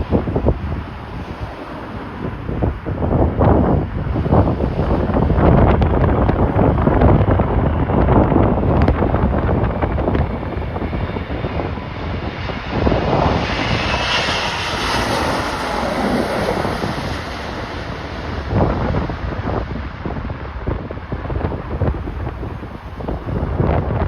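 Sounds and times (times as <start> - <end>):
jet engine noise: 0.0 - 24.0
wind buffeting microphone: 0.0 - 24.0.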